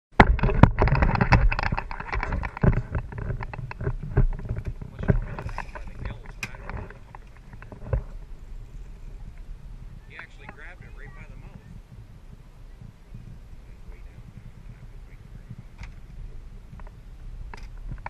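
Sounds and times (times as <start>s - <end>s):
water sloshing at hull: 0.2s - 18.0s.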